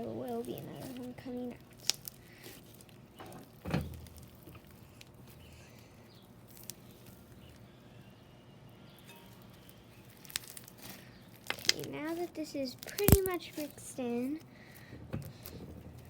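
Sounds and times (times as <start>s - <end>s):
slime squishing: 0.0s - 7.5s, 9.6s - 16.0s
small clicks and crackles: 0.0s - 7.6s, 9.3s - 16.0s.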